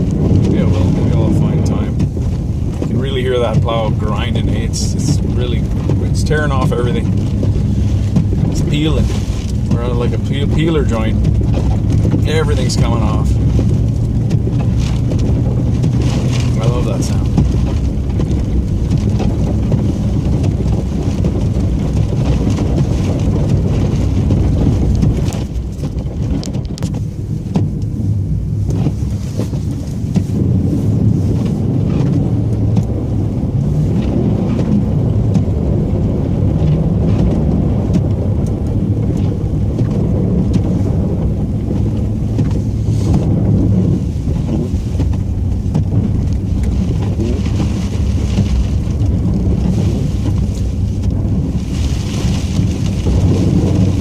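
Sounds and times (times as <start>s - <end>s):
snowplow blade scraping road: 0.0s - 54.0s
truck engine rumble: 0.0s - 54.0s.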